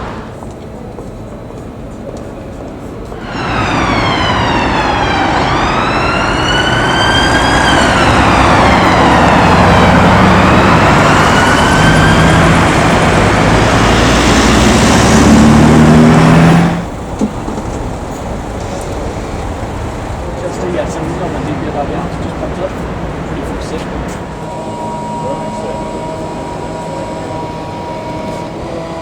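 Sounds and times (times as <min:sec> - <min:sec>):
traffic and engine noise: 0:00.0 - 0:29.0
emergency siren wailing: 0:03.2 - 0:17.3, 0:18.8 - 0:29.0.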